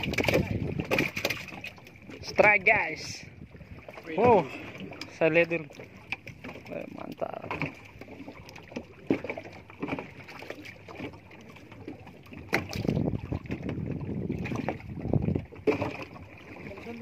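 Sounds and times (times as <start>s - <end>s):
wind rumbling on microphone: 0.0s - 8.9s, 11.9s - 17.0s
knocks and clatter aboard boat: 0.0s - 17.0s.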